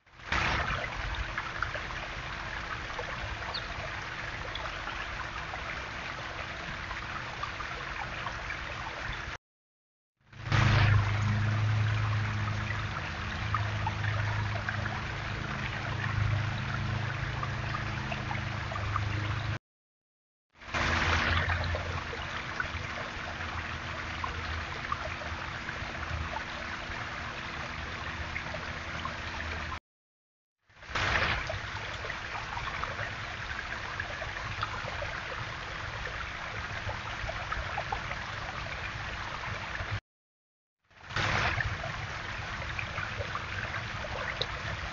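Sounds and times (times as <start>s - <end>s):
water trickling over waterfall: 0.0s - 9.4s, 10.3s - 19.6s, 20.6s - 29.8s, 30.7s - 40.0s, 40.9s - 44.9s.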